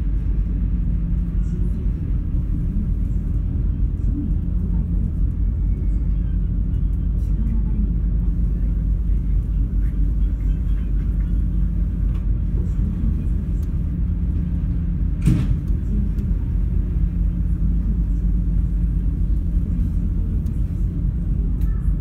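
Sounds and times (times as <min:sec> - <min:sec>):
ferry engines humming: 0:00.0 - 0:22.0.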